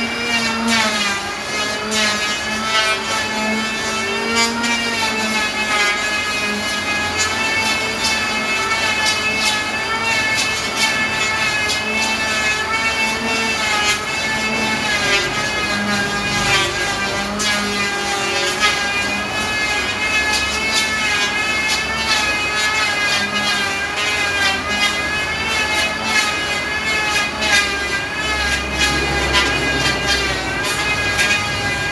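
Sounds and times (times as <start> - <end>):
electric planer motor whine: 0.0 - 31.9.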